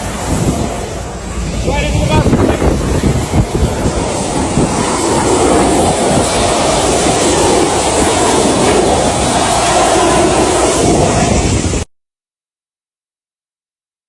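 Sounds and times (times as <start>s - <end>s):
jet airliner cabin noise: 0.0s - 11.9s.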